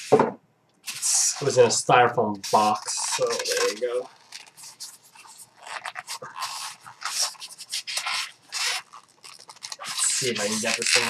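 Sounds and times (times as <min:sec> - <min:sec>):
styrofoam rubbing and scraping: 0:00.0 - 0:00.2, 0:00.8 - 0:01.8, 0:02.4 - 0:11.0.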